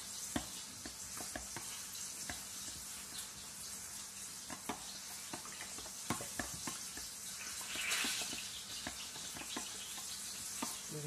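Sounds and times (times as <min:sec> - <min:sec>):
frying pan sizzling: 0:00.0 - 0:11.0.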